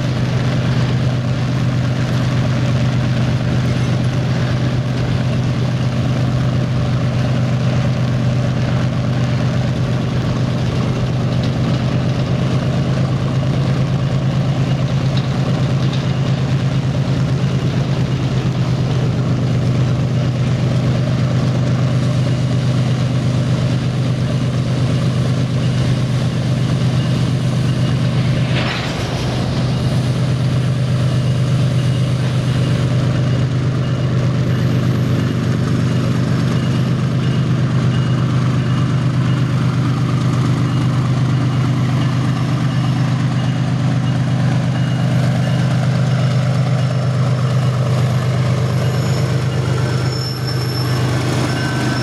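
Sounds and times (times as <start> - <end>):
locomotive engine drone: 0.0 - 52.0.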